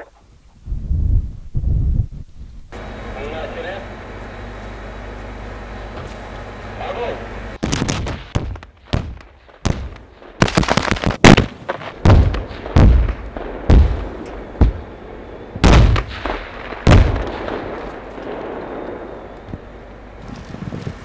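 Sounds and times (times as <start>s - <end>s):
sharp explosions: 2.7s - 21.0s.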